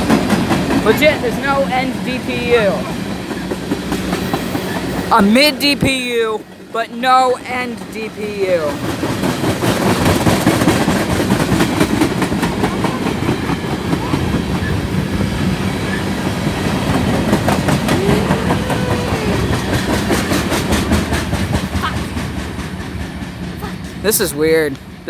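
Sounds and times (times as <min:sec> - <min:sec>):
freight train rumble: 0:00.0 - 0:25.0
train wheels clacking over rail joints: 0:00.0 - 0:25.0.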